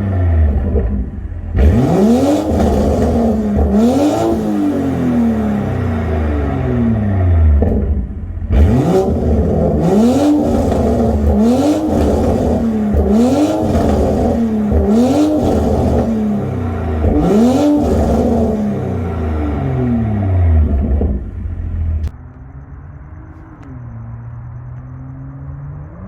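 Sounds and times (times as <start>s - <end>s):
car engine idling: 0.0s - 25.7s
car engine revving: 0.0s - 26.0s.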